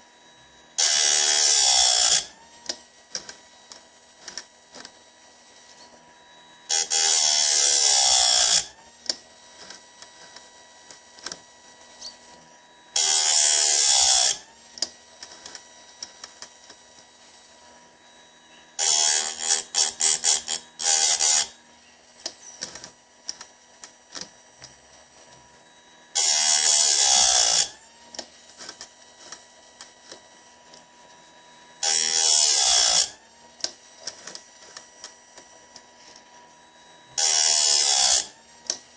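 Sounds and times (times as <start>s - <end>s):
grinding wheel grinding chain: 0.8s - 4.9s, 5.5s - 38.9s.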